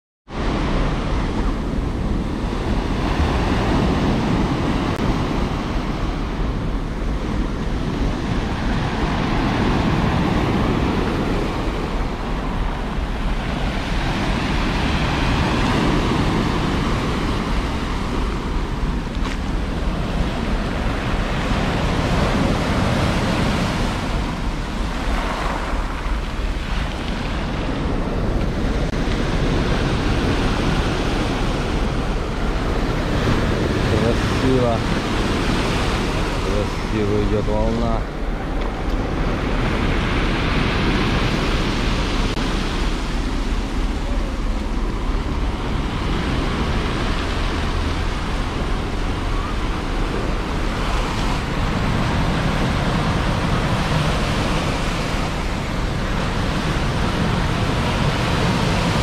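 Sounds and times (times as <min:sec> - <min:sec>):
surf washing over pebbles: 0:00.4 - 0:59.0.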